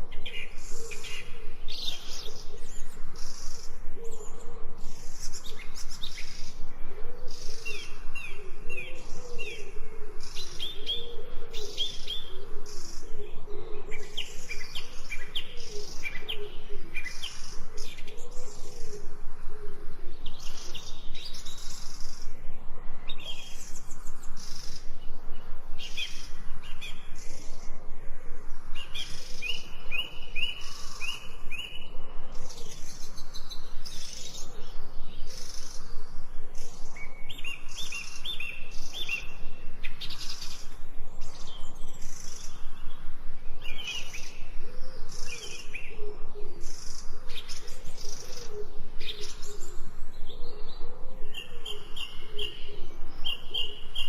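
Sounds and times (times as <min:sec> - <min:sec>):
low cooing call: 0:00.0 - 0:54.0
wild birds singing and chirping: 0:00.0 - 0:54.0.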